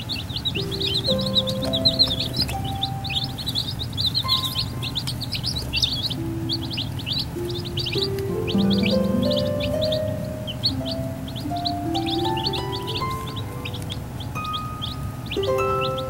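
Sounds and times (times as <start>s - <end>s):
baby chicks peeping: 0.0s - 16.0s
soft background music: 0.0s - 16.0s.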